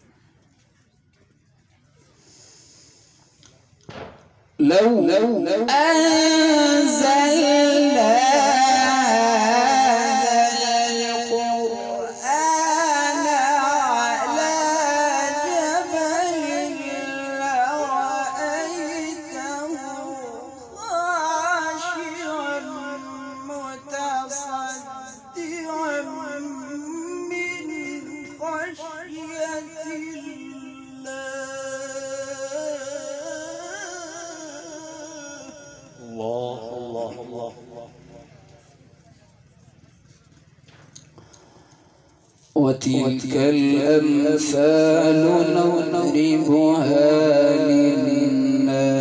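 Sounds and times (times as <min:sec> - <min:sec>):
man reciting melodically: 0:04.6 - 0:38.9, 0:42.2 - 0:49.0.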